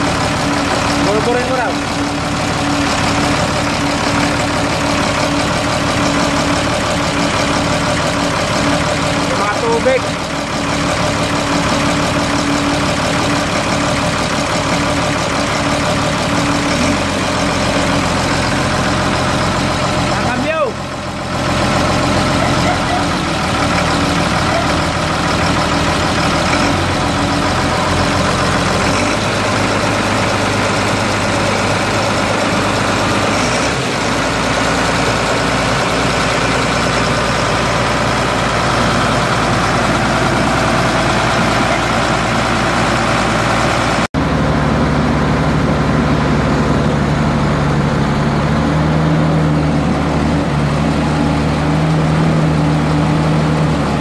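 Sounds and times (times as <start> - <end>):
diesel engine idling: 0.0 - 54.0
dump truck engine idling: 0.0 - 54.0.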